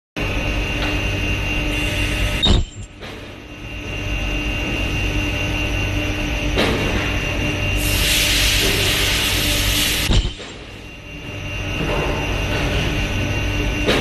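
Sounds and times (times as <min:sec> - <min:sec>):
machine humming with high whine: 0:00.2 - 0:14.0.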